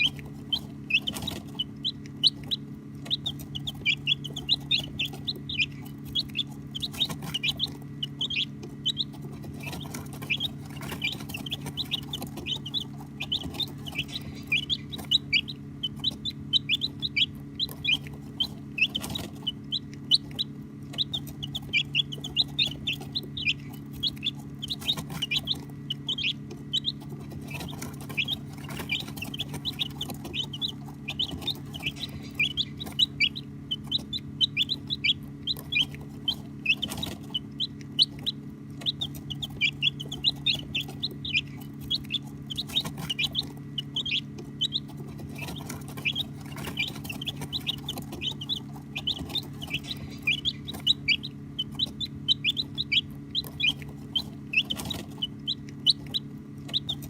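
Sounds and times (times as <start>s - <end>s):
baby chicks chirping: 0.0s - 57.0s
steady low hum: 0.0s - 57.0s.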